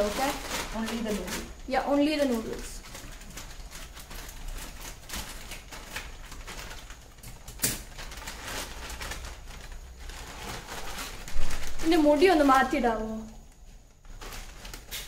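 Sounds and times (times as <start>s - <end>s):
plastic packet crinkling: 0.0s - 15.0s.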